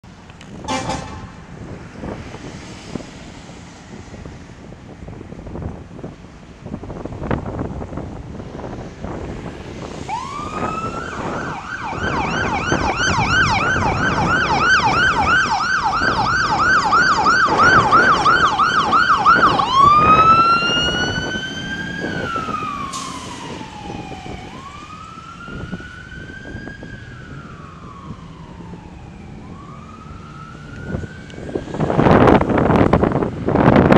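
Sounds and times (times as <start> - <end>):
wind buffeting microphone: 0.1 - 33.9
fire engine siren: 0.6 - 6.1, 8.4 - 33.9.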